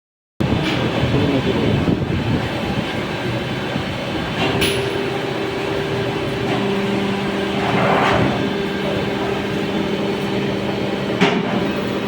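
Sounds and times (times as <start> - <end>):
steady hum: 0.4 - 12.0
lower hum: 0.5 - 12.0.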